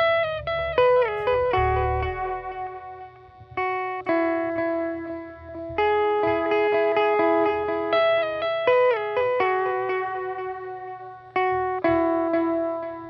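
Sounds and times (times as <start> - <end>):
plucked guitar melody: 0.0 - 13.0.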